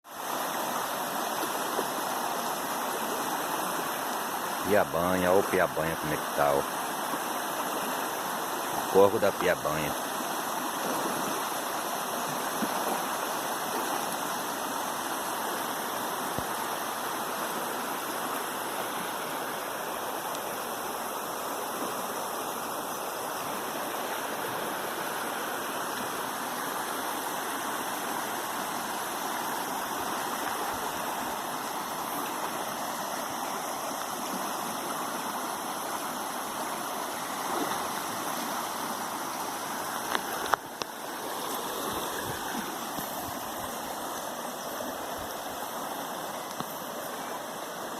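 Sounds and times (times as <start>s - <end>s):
river water rushing: 0.1s - 47.9s.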